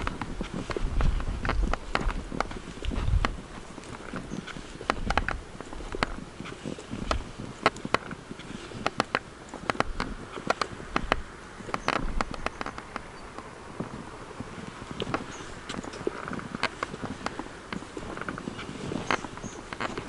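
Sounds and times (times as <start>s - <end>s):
sharp clicks and knocks: 0.0s - 6.2s, 7.0s - 8.2s, 8.8s - 13.9s, 14.9s - 20.0s
footsteps on stone path: 0.0s - 20.0s.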